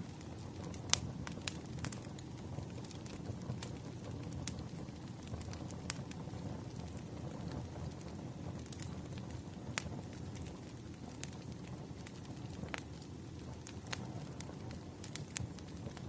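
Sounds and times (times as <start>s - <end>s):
burning wood rumble: 0.0s - 16.0s
sharp fire pops: 0.0s - 16.0s.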